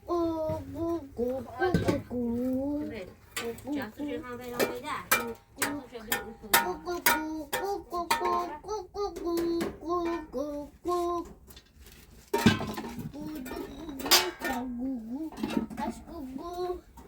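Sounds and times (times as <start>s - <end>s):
child singing: 0.0s - 11.4s, 12.9s - 17.0s.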